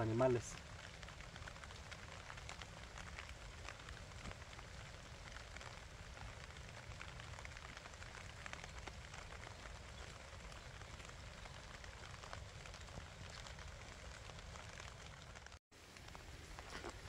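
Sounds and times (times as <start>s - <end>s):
light rain falling: 0.0s - 17.0s.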